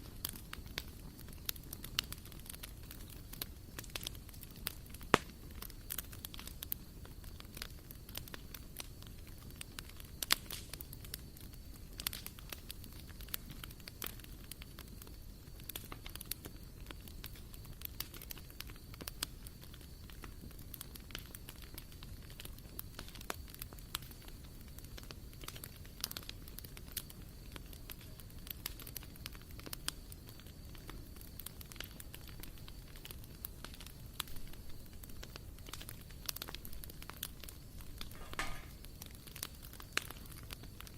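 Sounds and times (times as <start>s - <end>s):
low steady fire hiss: 0.0s - 40.9s
wood fire crackling and popping: 0.0s - 40.9s.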